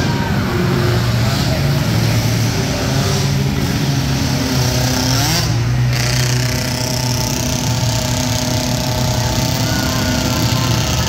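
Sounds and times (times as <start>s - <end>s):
small quad engines racing: 0.0s - 11.0s.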